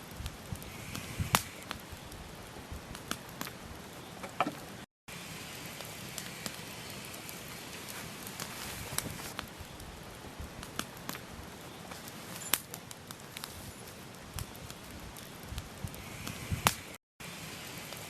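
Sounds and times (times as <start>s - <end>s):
campfire crackling and popping: 0.0s - 18.0s
steady fire hiss: 0.0s - 18.0s.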